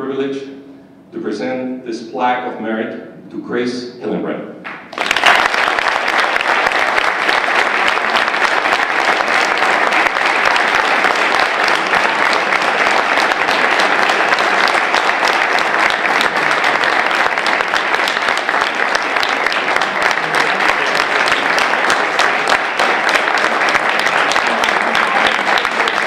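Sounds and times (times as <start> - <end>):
audience applauding: 4.7 - 26.0.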